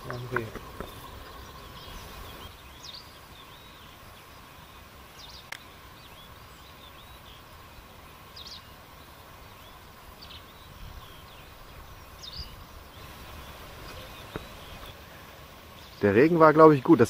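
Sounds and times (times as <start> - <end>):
faint outdoor background: 0.0 - 17.0
small birds chirping: 0.0 - 17.0.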